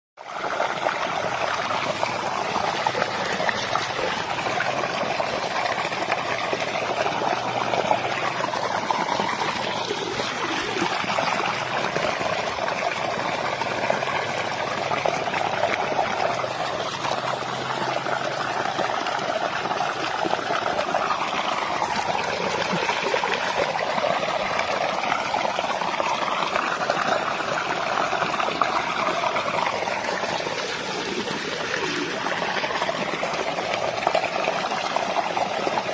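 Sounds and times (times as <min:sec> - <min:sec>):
water trickling: 0:00.2 - 0:35.9.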